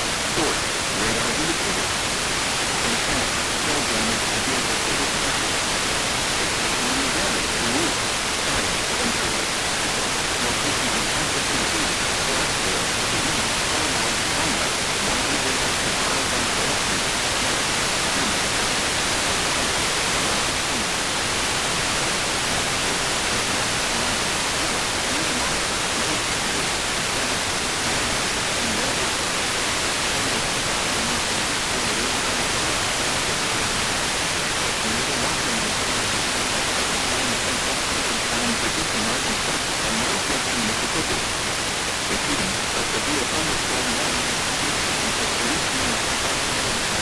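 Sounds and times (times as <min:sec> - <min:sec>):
radio static hiss: 0:00.0 - 0:47.0.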